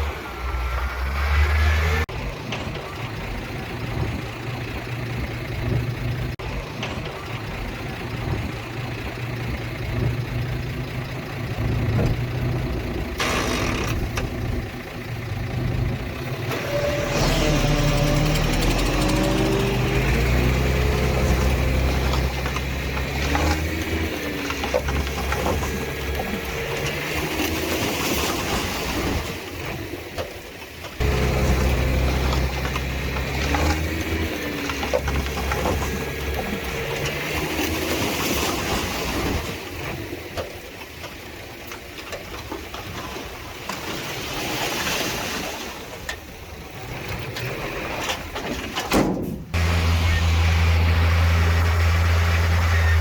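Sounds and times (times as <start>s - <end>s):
diesel engine revving under load: 0.0s - 30.1s, 30.9s - 40.3s, 49.4s - 53.0s.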